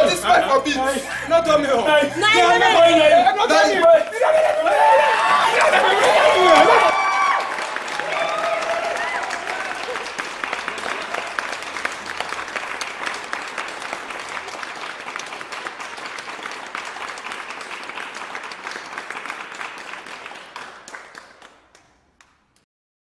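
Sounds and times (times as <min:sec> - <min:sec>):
audience applause: 0:02.3 - 0:22.5.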